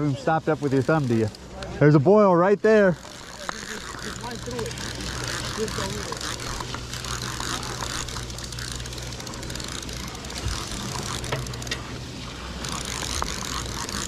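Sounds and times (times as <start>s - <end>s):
boat engine hum: 0.0s - 14.0s
sea noise: 0.0s - 14.0s
wind: 0.0s - 14.0s.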